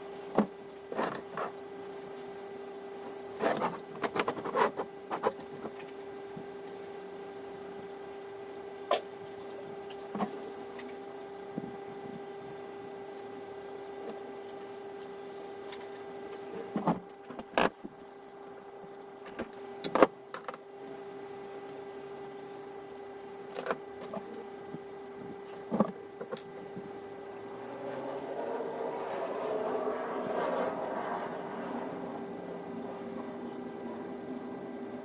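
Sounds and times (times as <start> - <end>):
steady even hum: 0.0 - 35.0.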